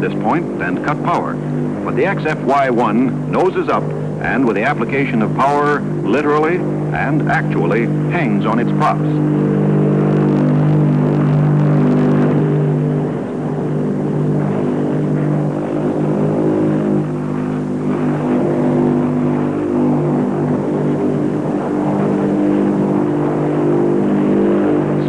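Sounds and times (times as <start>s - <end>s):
turboprop aircraft drone: 0.0s - 25.0s.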